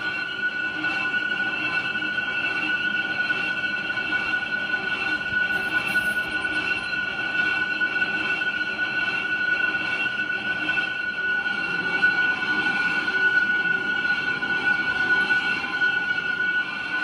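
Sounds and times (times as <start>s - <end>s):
machine tool whining: 0.0s - 15.1s.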